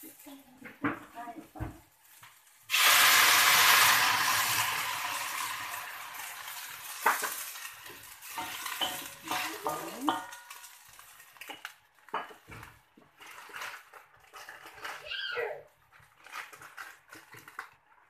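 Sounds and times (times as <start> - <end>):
hot liquid sizzling: 0.0 - 17.8.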